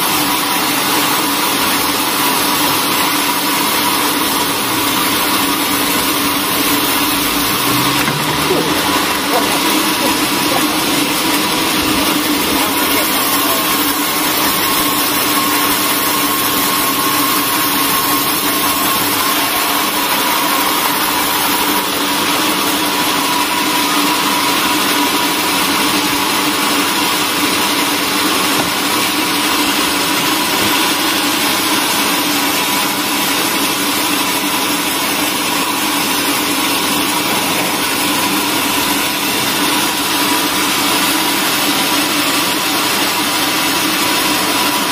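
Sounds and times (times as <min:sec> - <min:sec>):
band saw cutting log: 0:00.0 - 0:44.9.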